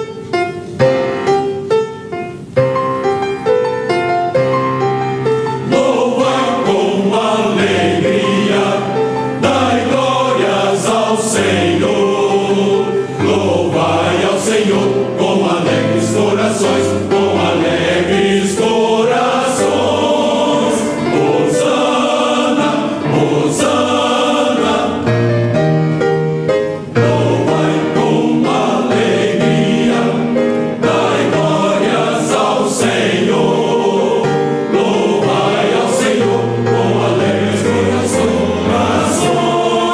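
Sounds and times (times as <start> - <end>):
choir singing worship song: 5.6 - 25.6, 26.8 - 39.9.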